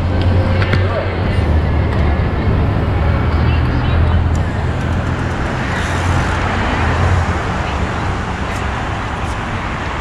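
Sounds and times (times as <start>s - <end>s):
low rumble: 0.0s - 9.8s
wind and road noise: 0.0s - 10.0s.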